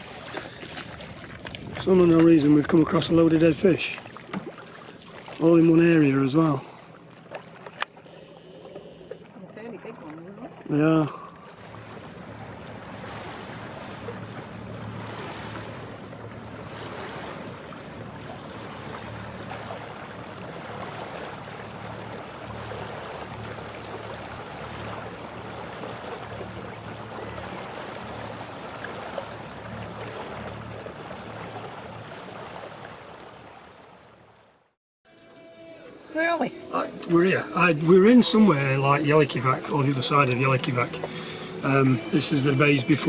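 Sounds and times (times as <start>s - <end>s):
water rushing along boat hull: 0.0s - 34.8s, 36.0s - 43.0s.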